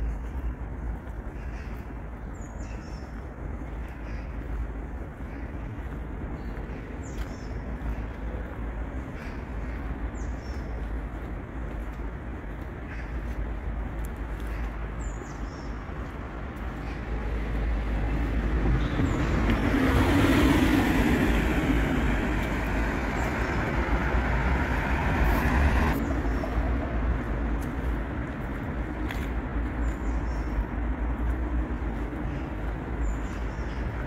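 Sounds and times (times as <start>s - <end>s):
low rumble of street traffic: 0.0s - 34.0s.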